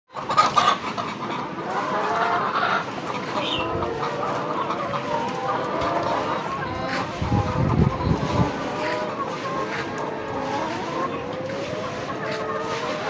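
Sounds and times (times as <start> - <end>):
chickens clucking: 0.1 - 13.0.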